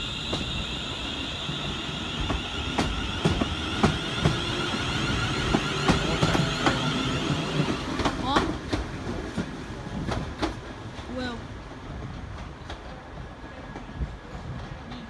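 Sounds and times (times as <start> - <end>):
passenger train passing: 0.0 - 15.0.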